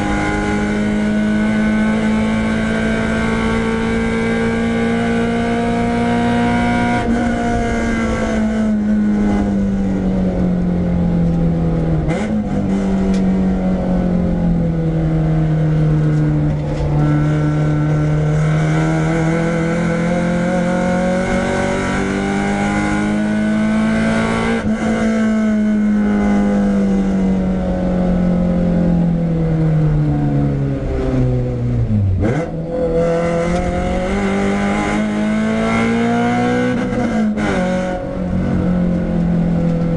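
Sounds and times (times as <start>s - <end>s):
car engine revving on track: 0.0s - 39.9s.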